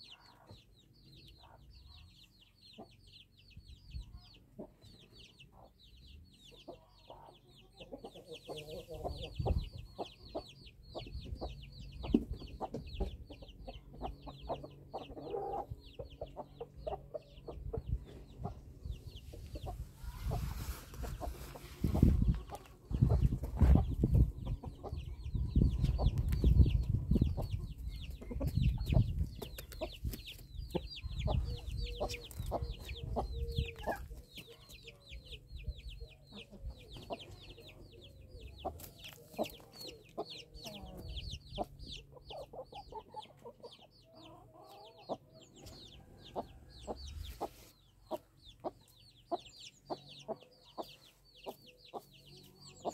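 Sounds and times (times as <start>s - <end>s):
chicks peeping: 0.0s - 52.9s
hens clucking: 6.5s - 35.0s, 36.0s - 52.9s
birds scratching and pecking ground: 6.6s - 35.4s, 36.0s - 52.9s.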